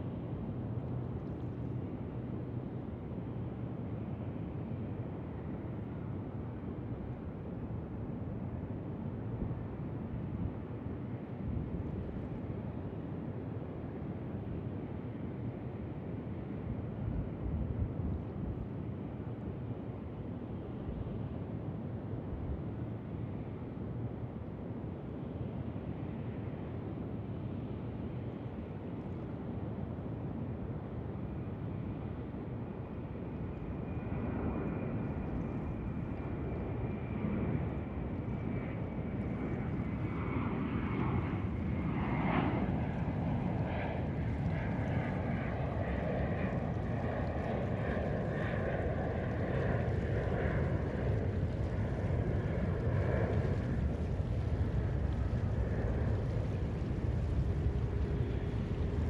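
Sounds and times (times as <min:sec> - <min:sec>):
jet engines of landing airliner: 0:00.0 - 0:59.0.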